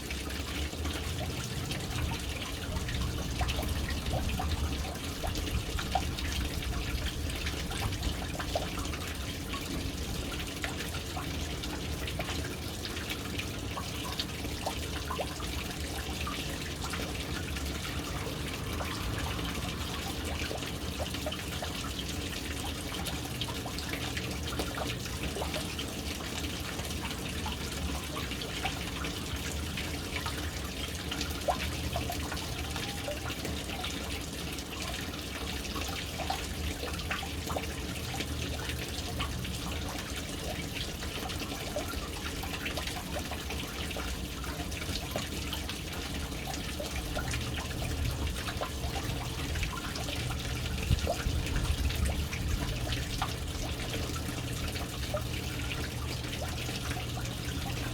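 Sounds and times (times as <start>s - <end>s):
water drips: 0.0s - 57.9s
water splashing into a tank: 0.0s - 57.9s.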